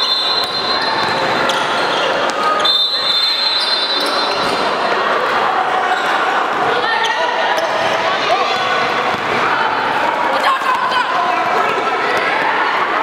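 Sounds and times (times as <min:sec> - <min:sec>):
players and spectators calling out: 0:00.0 - 0:13.0.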